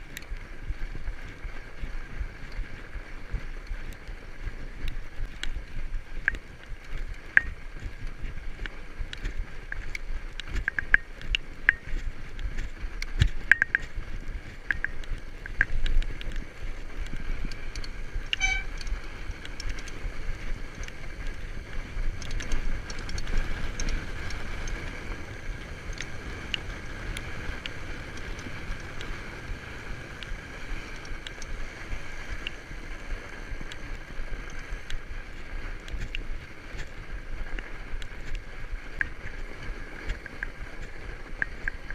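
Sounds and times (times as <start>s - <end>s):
bike clicks and rattles: 0.0s - 41.9s
bike tyres crunching on snow: 0.0s - 41.9s.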